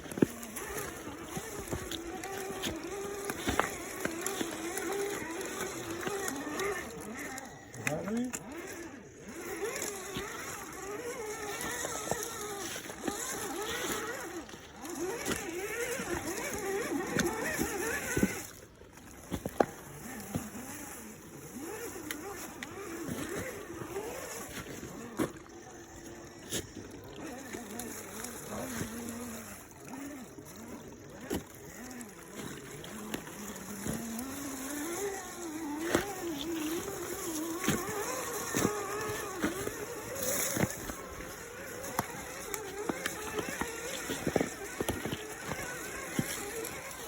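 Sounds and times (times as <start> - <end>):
electric motor whining: 0.0 - 47.0.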